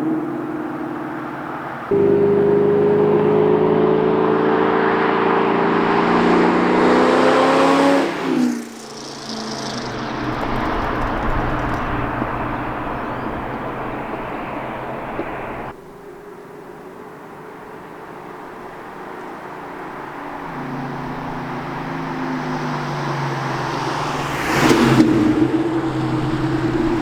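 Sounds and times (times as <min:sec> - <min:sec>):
car exhaust under load: 0:00.0 - 0:15.8, 0:16.8 - 0:27.0.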